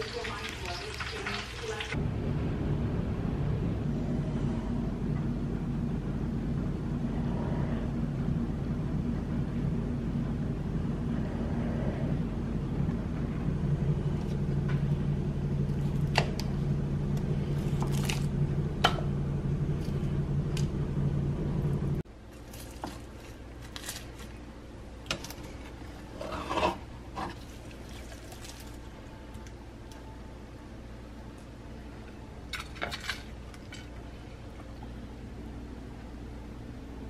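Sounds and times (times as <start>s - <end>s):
steady low hum: 0.1s - 37.0s.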